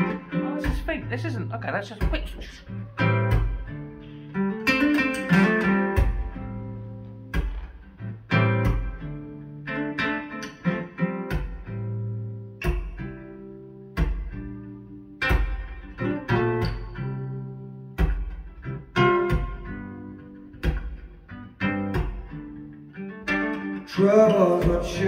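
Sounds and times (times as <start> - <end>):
acoustic guitar song over speakers: 0.0 - 25.0.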